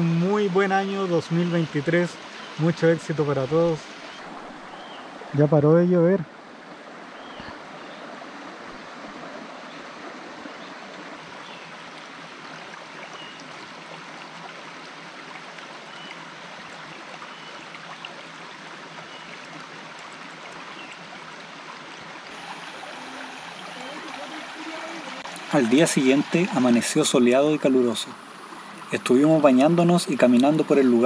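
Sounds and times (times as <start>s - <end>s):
creek water running over rocks: 0.0s - 31.0s.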